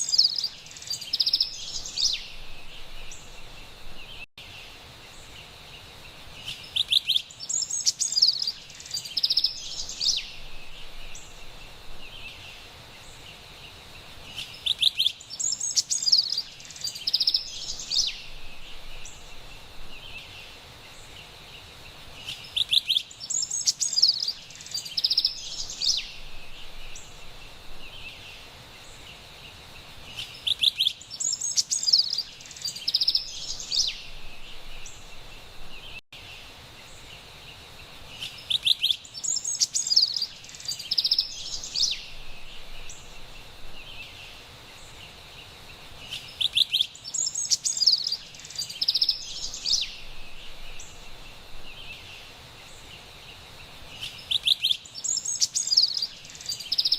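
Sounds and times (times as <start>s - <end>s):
wren singing: 0.0s - 5.4s, 6.3s - 13.4s, 14.0s - 21.1s, 22.2s - 29.2s, 30.1s - 36.0s, 38.1s - 56.9s
faint high hiss: 0.0s - 56.9s.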